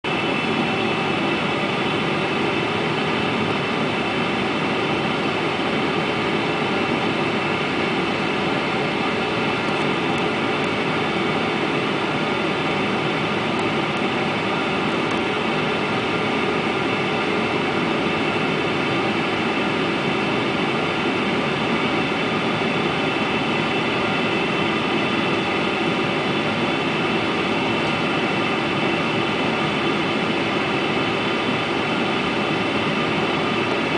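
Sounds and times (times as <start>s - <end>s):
airplane cabin engine rush: 0.0s - 33.9s.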